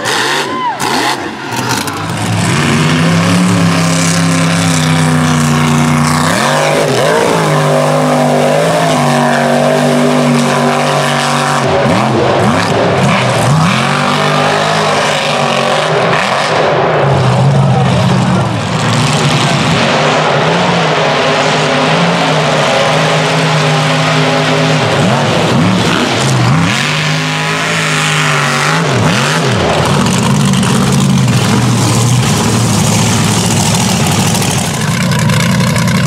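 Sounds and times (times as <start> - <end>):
truck engines revving: 0.0 - 36.0.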